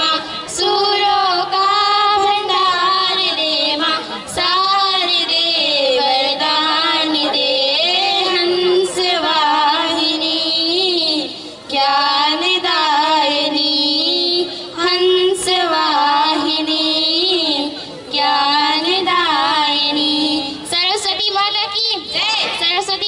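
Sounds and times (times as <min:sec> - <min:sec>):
girls singing prayer song: 0:00.0 - 0:21.1.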